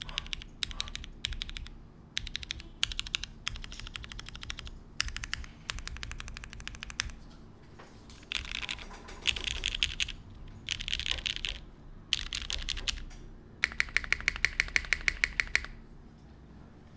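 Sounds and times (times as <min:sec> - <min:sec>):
mechanical keyboard typing: 0:00.0 - 0:07.3, 0:08.1 - 0:15.8.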